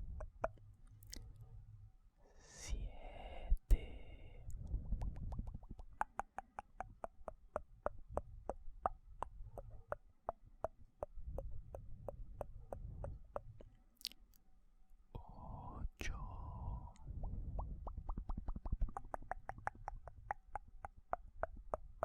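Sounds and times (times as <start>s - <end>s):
sharp mouth clicks: 0.0s - 1.4s, 3.6s - 14.4s, 16.0s - 22.0s
wet mouth noise: 0.0s - 1.4s, 3.7s - 14.4s, 16.0s - 22.0s.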